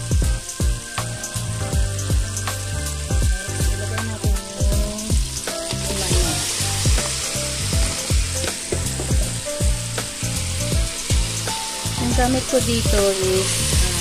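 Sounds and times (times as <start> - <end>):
chicken frying in hot oil: 0.0 - 14.0
thudding background music beat: 0.0 - 14.0.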